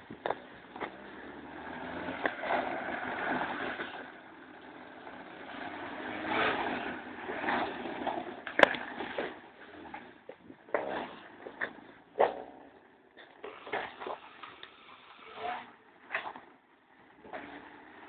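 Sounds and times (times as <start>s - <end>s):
engine revving: 0.2s - 12.8s, 13.4s - 16.4s, 17.1s - 18.0s.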